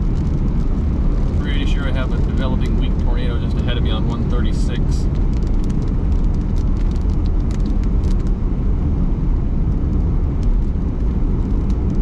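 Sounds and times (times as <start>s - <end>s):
car rumbling on road: 0.0s - 12.0s.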